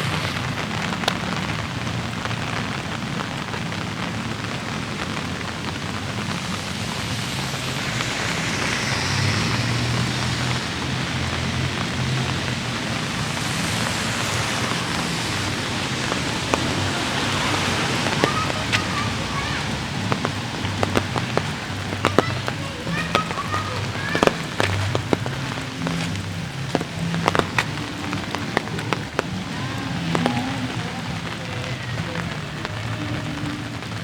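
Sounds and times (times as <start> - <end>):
light rain pattering: 0.0 - 34.0
sharp drips: 0.0 - 34.0.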